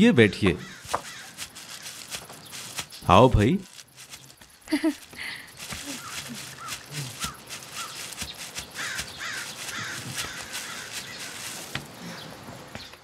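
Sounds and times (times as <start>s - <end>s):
bird calling: 0.6s - 3.1s, 4.3s - 13.0s
outdoor hiss: 0.8s - 13.0s.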